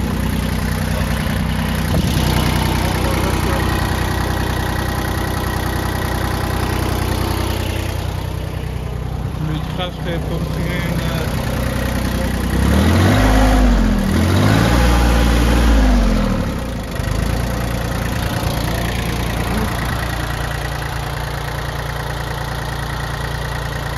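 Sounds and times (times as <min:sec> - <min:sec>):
diesel tractor engine revving and idling: 0:00.0 - 0:23.9.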